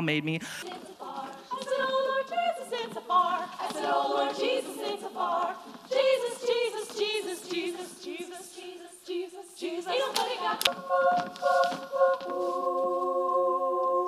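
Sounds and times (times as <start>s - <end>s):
female choir singing: 0.6s - 14.0s.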